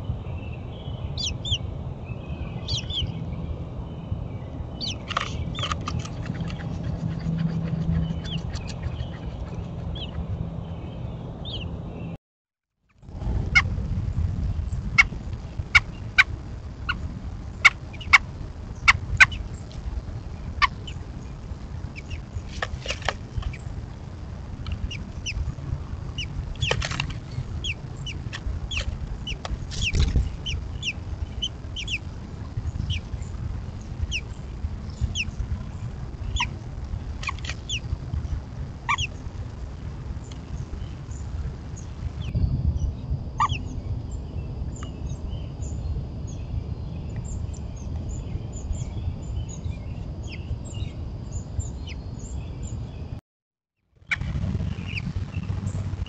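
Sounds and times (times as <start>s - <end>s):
steady low rumble: 0.0s - 12.2s, 12.9s - 53.2s, 54.0s - 56.0s.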